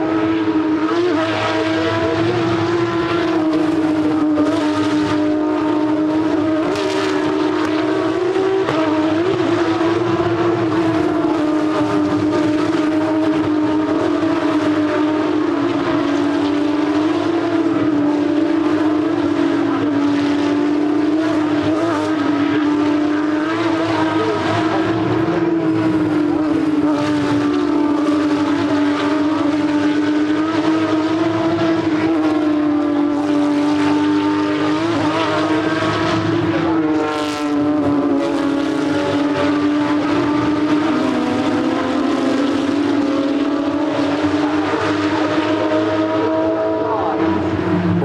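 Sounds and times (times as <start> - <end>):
cars passing by: 0.0 - 48.0
race car engines at high revs: 0.0 - 48.0.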